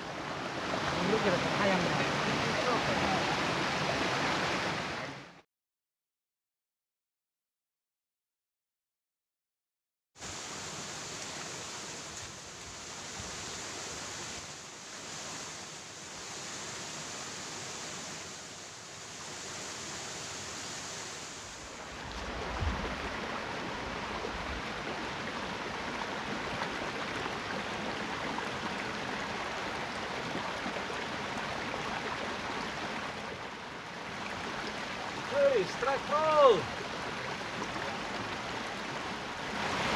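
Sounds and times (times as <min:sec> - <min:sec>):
stream water rushing over stones: 0:00.0 - 0:05.4, 0:10.2 - 0:39.9.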